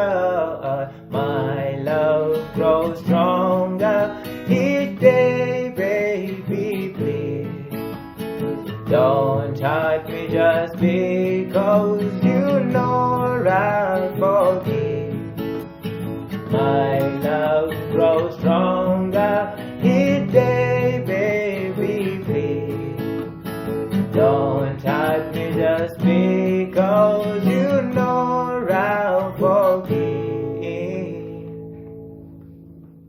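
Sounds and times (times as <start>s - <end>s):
person singing: 0.0s - 8.0s, 8.8s - 15.6s, 16.3s - 31.8s
acoustic guitar strumming: 0.0s - 33.0s.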